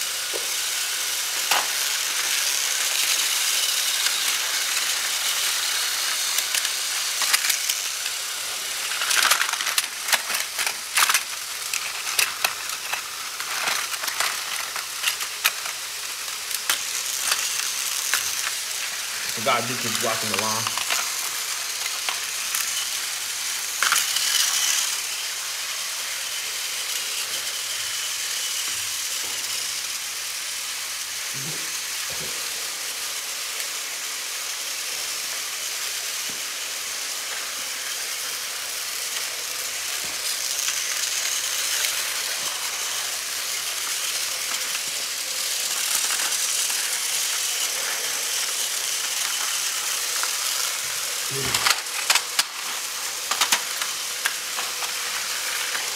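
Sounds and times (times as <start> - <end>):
toy train motors whirring: 0.0 - 55.9
toy train rattle: 0.0 - 55.9.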